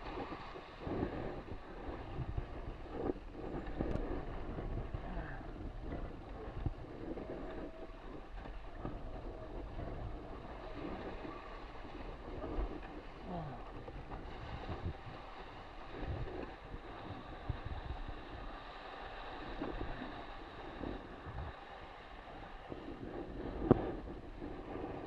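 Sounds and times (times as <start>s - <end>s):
water splashing along hull: 0.0s - 25.0s
wind buffeting microphone: 0.0s - 25.0s.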